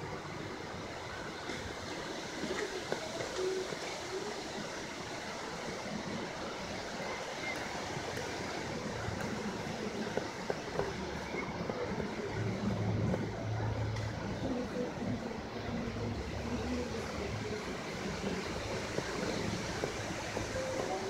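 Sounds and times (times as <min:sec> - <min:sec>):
rain: 0:00.0 - 0:21.0
wind: 0:00.0 - 0:21.0.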